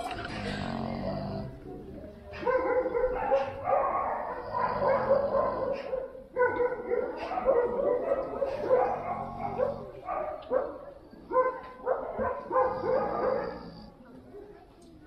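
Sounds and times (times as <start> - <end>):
dogs barking: 0.0 - 1.6, 2.3 - 13.9.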